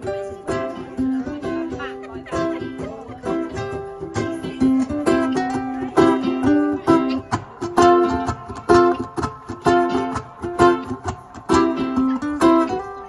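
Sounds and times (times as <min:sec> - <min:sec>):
ukuleles strumming chords: 0:00.0 - 0:13.0.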